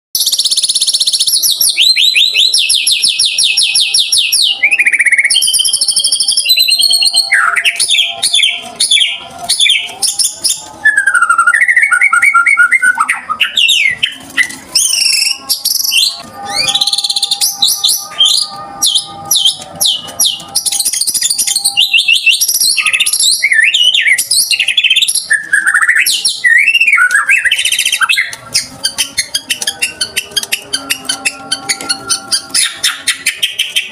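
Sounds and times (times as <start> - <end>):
songbird singing trills: 0.2 - 33.9.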